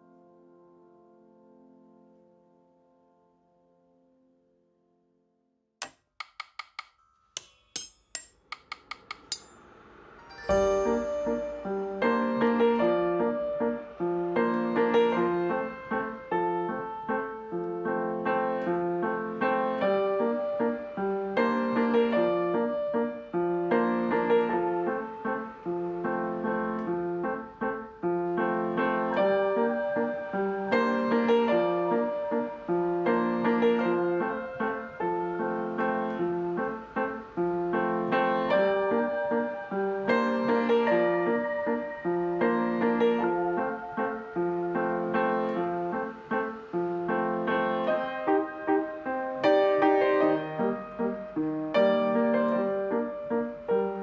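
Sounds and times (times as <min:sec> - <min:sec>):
piano playing repeating pattern: 0:10.2 - 0:54.0.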